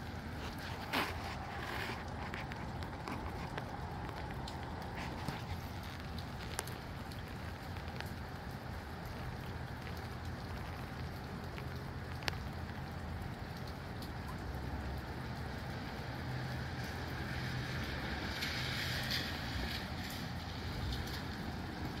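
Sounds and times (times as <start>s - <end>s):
rain hiss: 0.0s - 22.0s
sharp drip-like tick: 1.4s - 22.0s.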